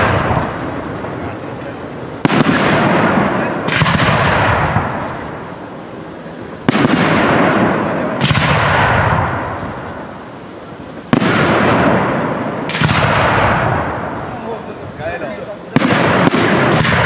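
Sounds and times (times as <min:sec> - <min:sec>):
firework shells bursting: 0:00.0 - 0:15.0, 0:15.6 - 0:17.0.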